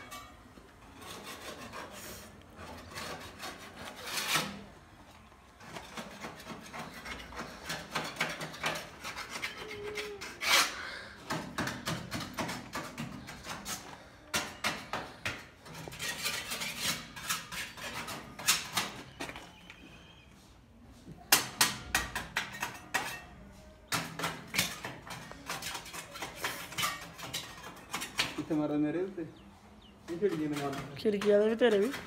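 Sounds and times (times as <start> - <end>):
metal scraper scraping paint: 0.0 - 4.7, 5.6 - 19.2, 21.3 - 28.6, 30.1 - 32.0.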